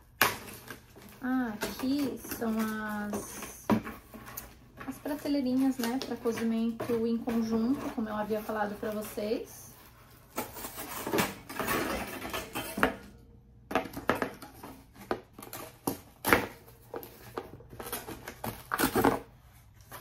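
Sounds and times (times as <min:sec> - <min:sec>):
cardboard rustling and scraping: 0:00.2 - 0:12.5, 0:14.1 - 0:20.0.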